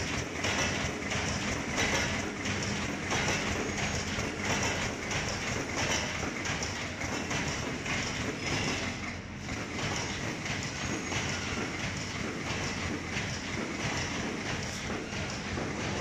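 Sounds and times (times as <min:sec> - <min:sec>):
factory machinery rhythmic clatter: 0:00.0 - 0:16.0.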